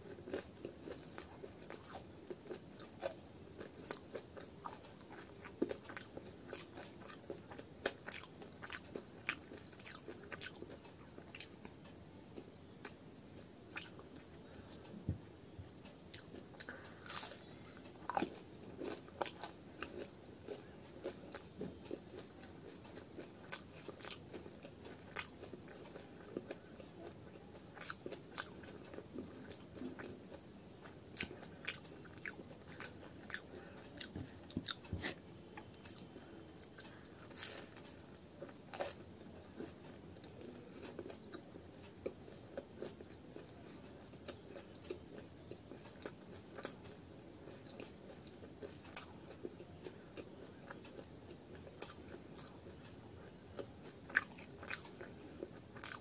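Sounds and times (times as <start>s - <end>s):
person chewing crunchy food: 0.0s - 15.1s, 15.7s - 56.0s.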